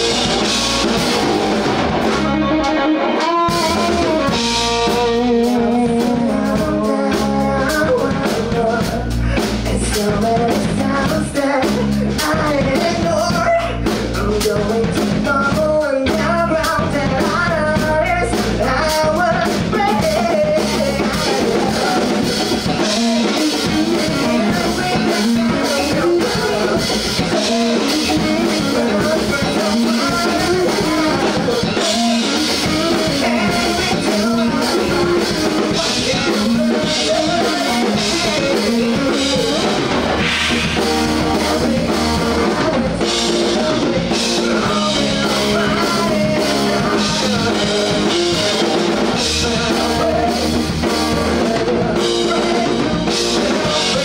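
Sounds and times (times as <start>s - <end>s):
person singing: 0.0s - 54.0s
rock band playing live: 0.0s - 54.0s.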